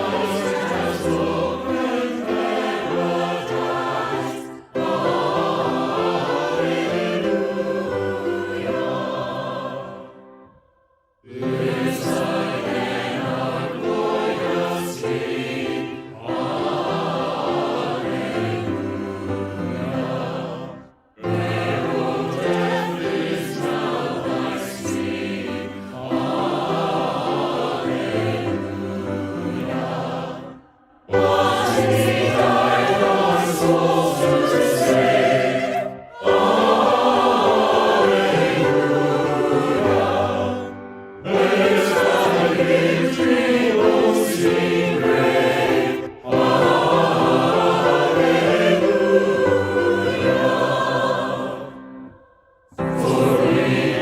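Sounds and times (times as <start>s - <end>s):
choir singing a hymn: 0.0s - 10.6s, 11.2s - 54.0s.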